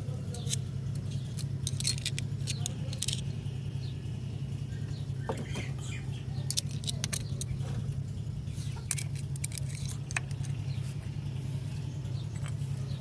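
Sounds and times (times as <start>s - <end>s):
steady low hum: 0.0s - 13.0s
metallic clicks on engine: 0.2s - 4.0s, 4.9s - 10.8s, 12.0s - 13.0s.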